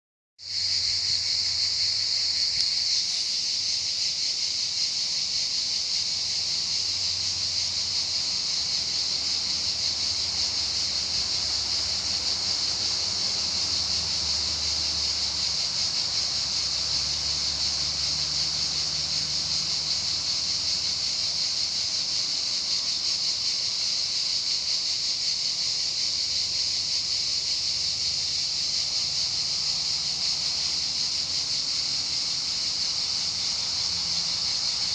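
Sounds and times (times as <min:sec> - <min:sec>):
cicadas buzzing: 0:00.4 - 0:34.9.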